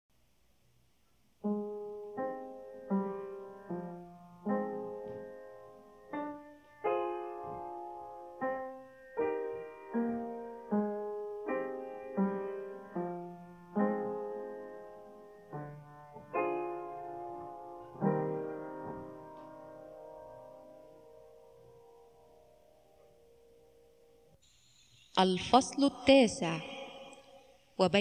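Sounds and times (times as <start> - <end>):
slow solo piano music: 1.4 - 24.4.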